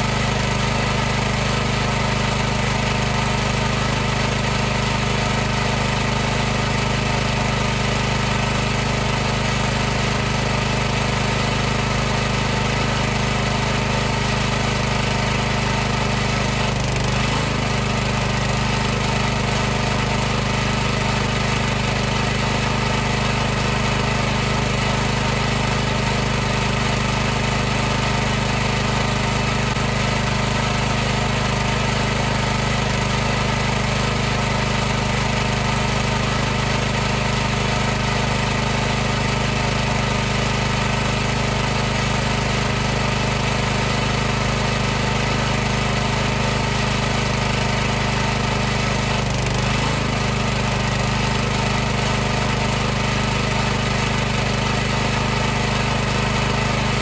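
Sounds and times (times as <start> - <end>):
pressure washer motor humming: 0.0 - 57.0.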